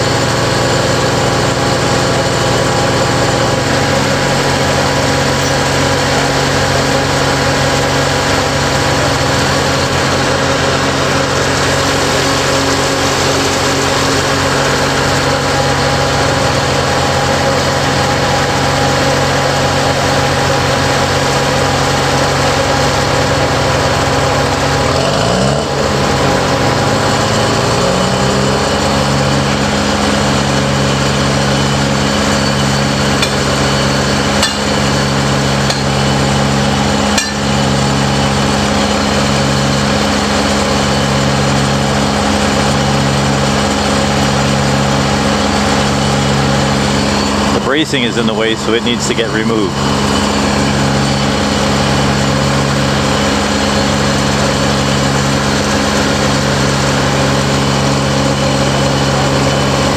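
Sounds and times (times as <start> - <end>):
crane diesel engine running: 0.0 - 59.9.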